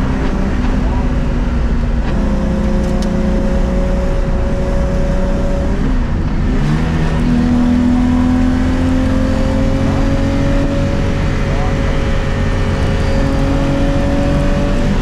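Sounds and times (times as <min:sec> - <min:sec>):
car engine under hard load: 0:00.0 - 0:15.0.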